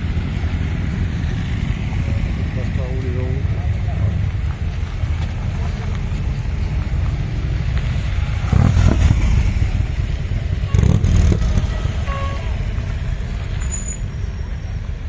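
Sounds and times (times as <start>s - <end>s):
motorcycle engines passing at low revs: 0.0s - 15.0s.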